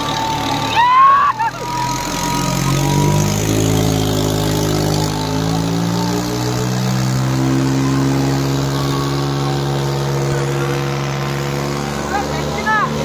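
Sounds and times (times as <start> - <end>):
high-pitched rising tone: 0.0 - 12.9
tractor diesel engine under load: 0.0 - 13.0.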